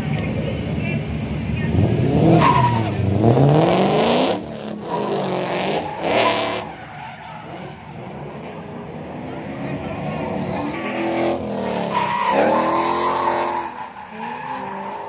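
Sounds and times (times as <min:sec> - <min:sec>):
car engine revving hard: 0:01.6 - 0:06.7, 0:07.5 - 0:15.0.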